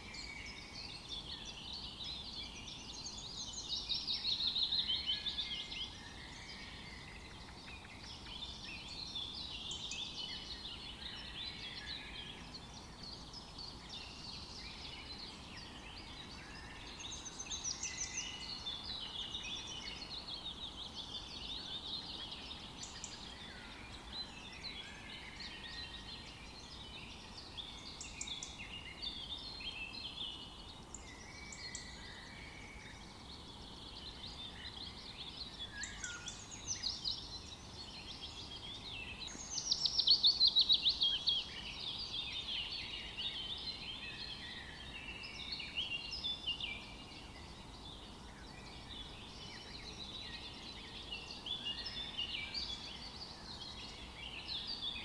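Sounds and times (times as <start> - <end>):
faint forest ambience hiss: 0.0 - 55.0
songbirds singing and chirping: 0.0 - 55.0.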